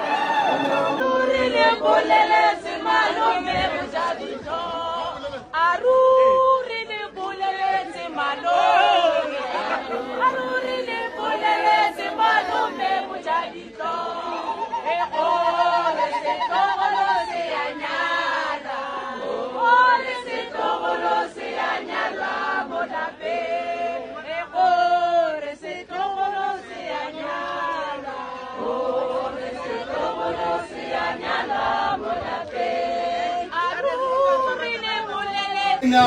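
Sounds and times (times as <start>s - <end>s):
group singing unaccompanied: 0.0s - 36.0s.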